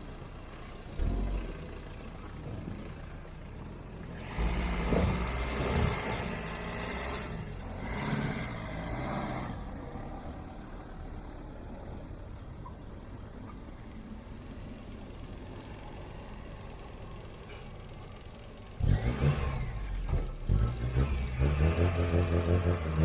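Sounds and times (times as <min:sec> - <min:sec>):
car engine running: 0:00.0 - 0:22.4.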